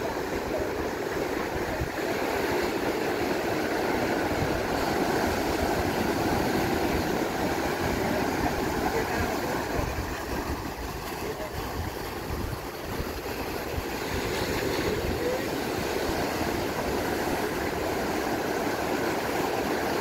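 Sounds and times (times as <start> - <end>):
surf washing over rocks and sand: 0.0 - 20.0.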